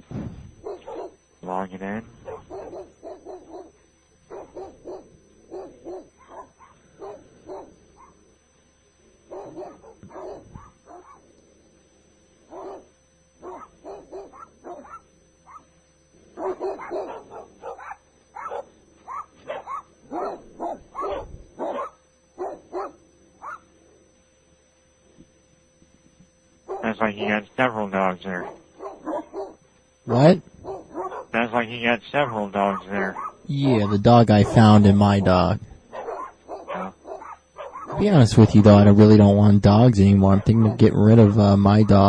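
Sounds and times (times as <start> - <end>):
dogs barking over telephone: 0.6 - 1.2, 2.2 - 8.2, 9.2 - 11.3, 12.5 - 23.7, 26.6 - 27.4, 28.3 - 42.0.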